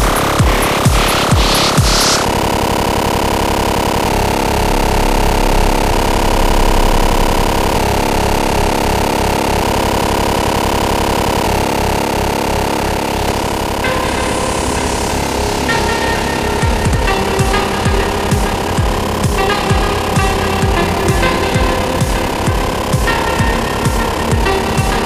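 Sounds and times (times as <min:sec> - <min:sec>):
buzzing synth bass: 0:00.0 - 0:25.0.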